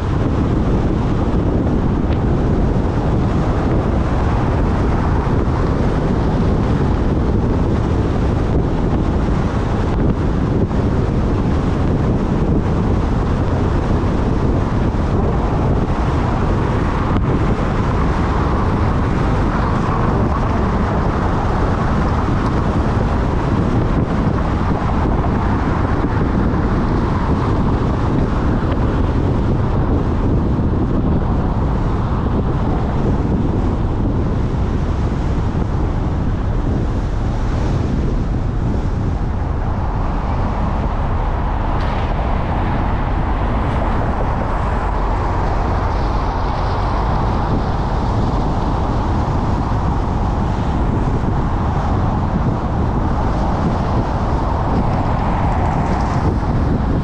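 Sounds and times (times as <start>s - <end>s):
car wind and tyre noise: 0.0s - 57.0s
wind buffeting microphone: 0.0s - 57.0s.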